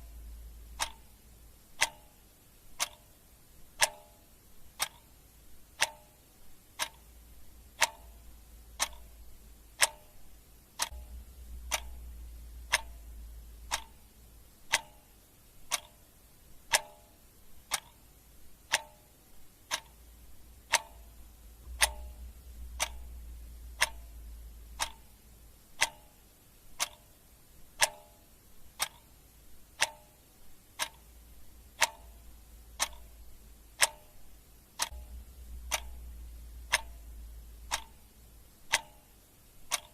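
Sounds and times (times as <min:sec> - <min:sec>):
clock ticking: 0:00.0 - 0:39.9
faint low rumble: 0:00.0 - 0:39.9.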